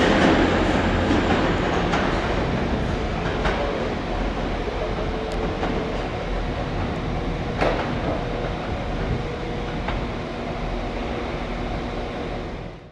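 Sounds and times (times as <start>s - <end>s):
train hum: 0.0s - 12.9s.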